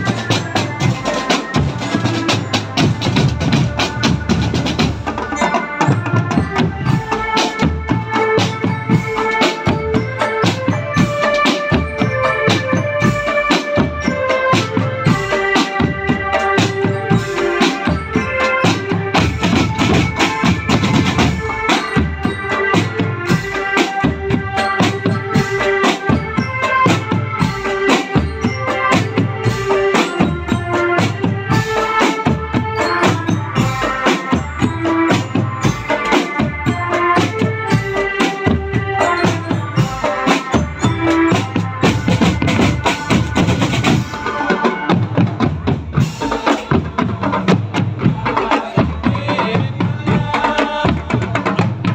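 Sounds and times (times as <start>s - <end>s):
marching bass drums: 0.0s - 51.9s
snare drums: 0.0s - 51.9s
tenor drums: 0.0s - 51.9s.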